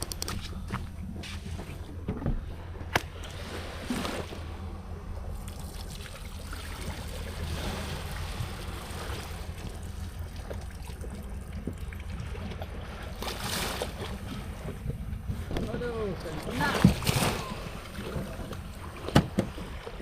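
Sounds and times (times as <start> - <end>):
low rumble: 0.0 - 20.0
water lapping against kayak hull: 0.3 - 20.0.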